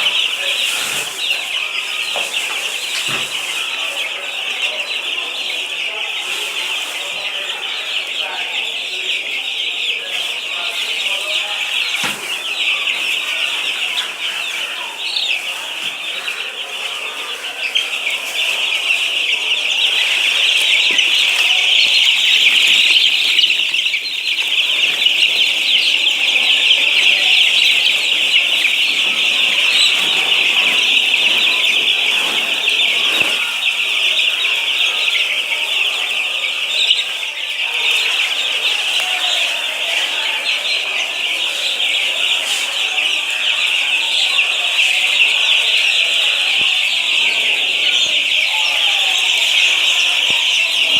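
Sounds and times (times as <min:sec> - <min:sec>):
poultry flock calling: 0:00.0 - 0:50.9.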